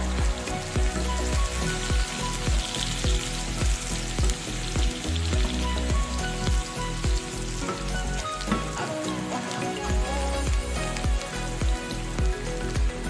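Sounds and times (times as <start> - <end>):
background music with a beat: 0.0 - 13.0
onion sizzling in a frying pan: 0.0 - 13.0.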